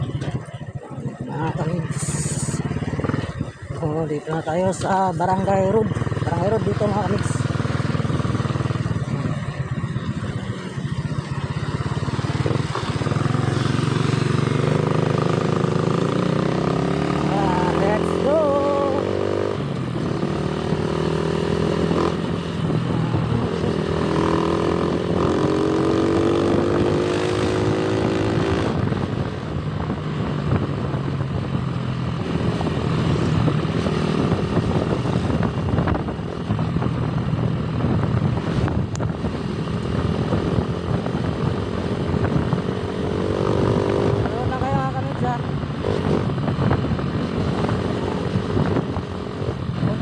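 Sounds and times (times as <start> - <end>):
motorcycle engine running: 0.0 - 50.0
wind noise on microphone: 0.0 - 50.0.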